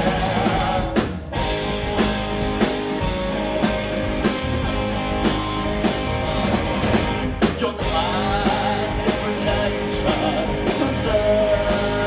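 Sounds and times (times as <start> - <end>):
drum kit beat: 0.0 - 12.0
electric guitar: 0.0 - 12.0.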